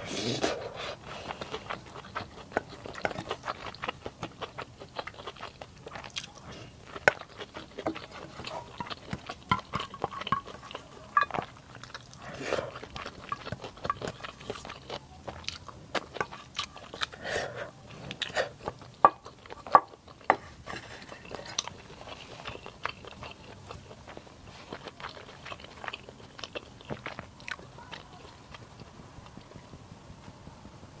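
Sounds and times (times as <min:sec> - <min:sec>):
chewing and crunching: 0:00.0 - 0:29.8.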